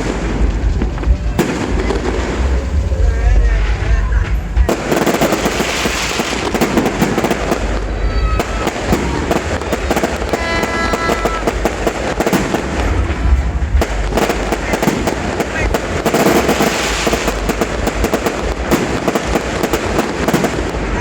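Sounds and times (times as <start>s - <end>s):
steady pitched tone: 0.0s - 19.6s
fireworks cracking: 0.0s - 21.0s
low rumble: 0.0s - 21.0s.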